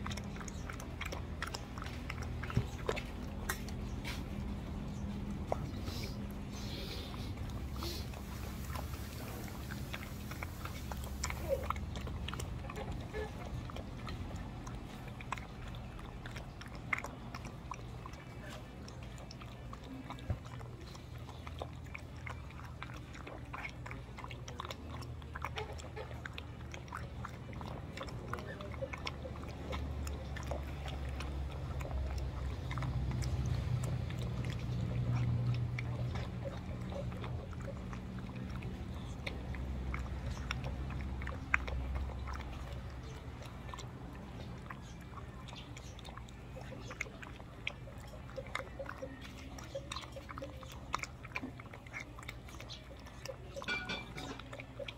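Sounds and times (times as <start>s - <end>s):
puppy eating from metal bowl: 0.0s - 54.9s.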